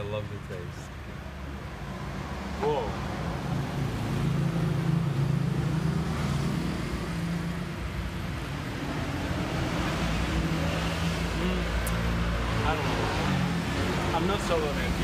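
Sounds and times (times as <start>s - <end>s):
street noise: 0.0s - 15.0s
vehicle engine humming: 0.0s - 15.0s.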